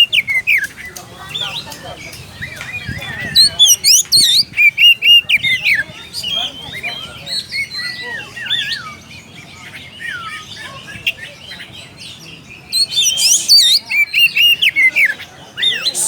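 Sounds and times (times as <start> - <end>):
bird singing whistles and chirps: 0.0 - 16.0.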